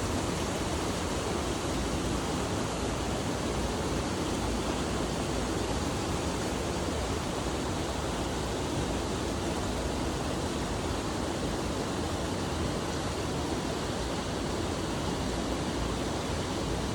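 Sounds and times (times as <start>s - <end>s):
flowing water rushing: 0.0s - 16.9s.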